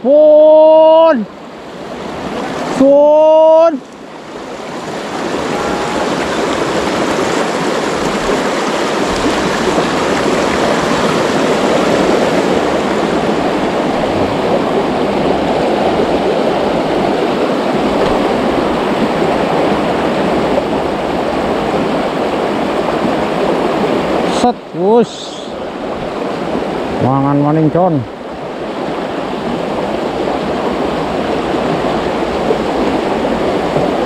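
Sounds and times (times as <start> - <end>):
river rushing over stones: 0.0 - 34.0.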